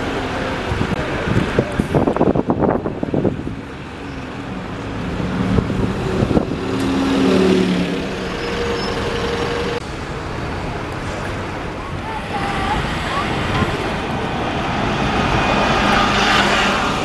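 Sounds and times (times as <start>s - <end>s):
bus engine accelerating: 0.0s - 17.0s.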